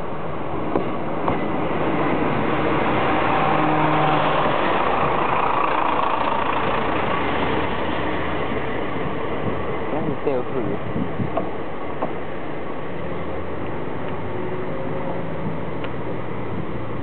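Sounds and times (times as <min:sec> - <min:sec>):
diesel railcar engine pulling away: 0:00.0 - 0:17.0.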